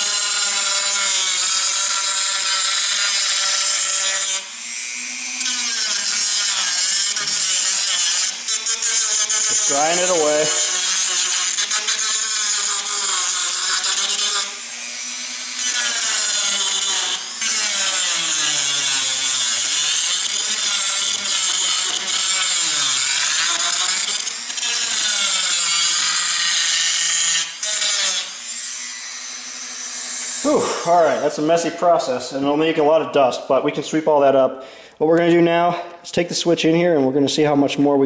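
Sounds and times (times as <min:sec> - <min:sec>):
rotary tool grinding: 0:00.0 - 0:31.9.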